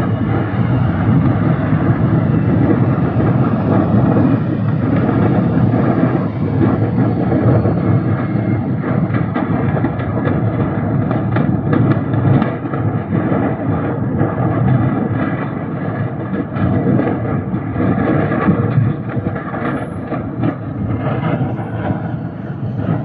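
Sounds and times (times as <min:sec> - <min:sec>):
fire crackles: 0:00.0 - 0:23.0
large fire roaring: 0:00.0 - 0:23.0.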